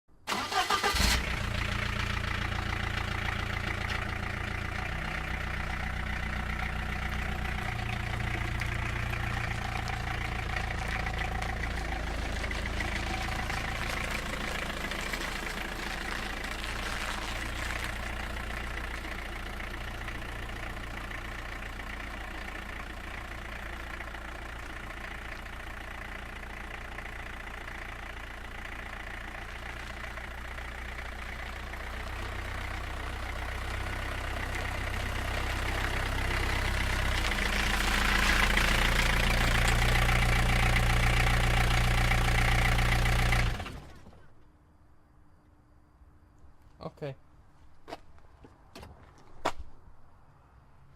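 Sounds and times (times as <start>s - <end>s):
engine idling: 0.2s - 44.4s.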